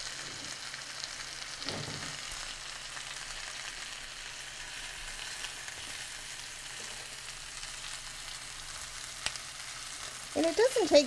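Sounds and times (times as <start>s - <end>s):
vegetables sizzling in a skillet: 0.0s - 11.0s.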